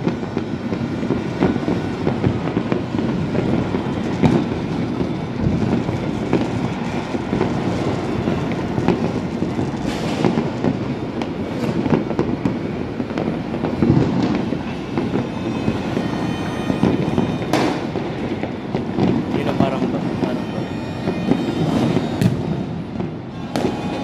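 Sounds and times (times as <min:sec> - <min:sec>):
distant fireworks bangs and crackles: 0:00.0 - 0:24.0
loud firework bang: 0:00.0 - 0:24.0.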